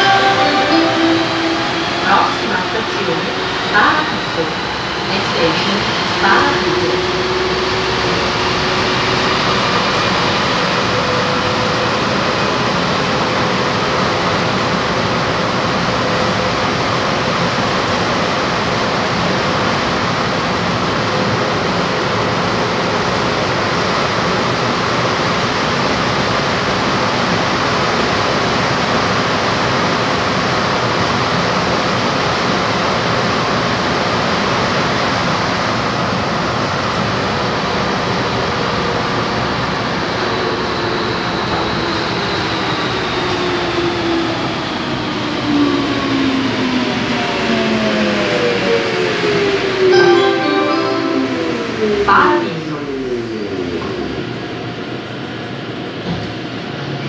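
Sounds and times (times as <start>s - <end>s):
train running through tunnel: 0.0s - 57.0s.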